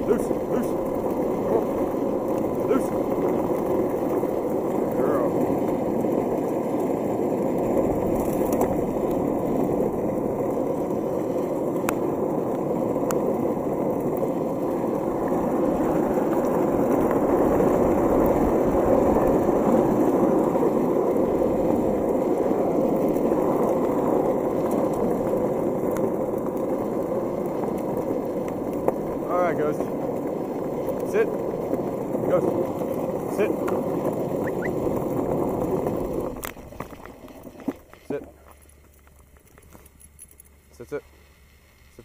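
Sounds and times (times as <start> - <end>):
skateboard wheels rolling on asphalt: 0.0 - 42.0.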